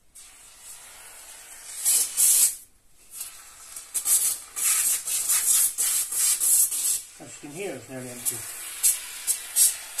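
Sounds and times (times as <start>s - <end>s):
foam gun spurts of hiss: 0.2s - 10.0s.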